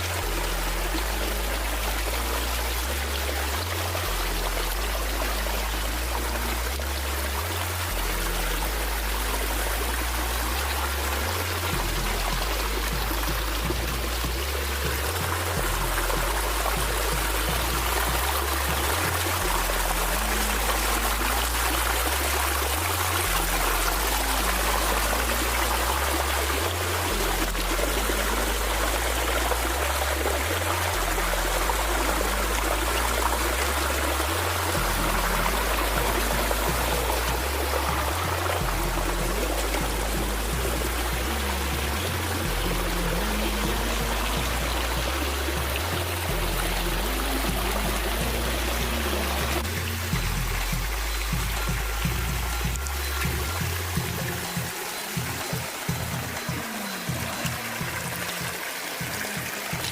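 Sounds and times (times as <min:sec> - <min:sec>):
background music with bass line: 0:00.0 - 0:59.9
running water rushing: 0:00.0 - 0:59.9.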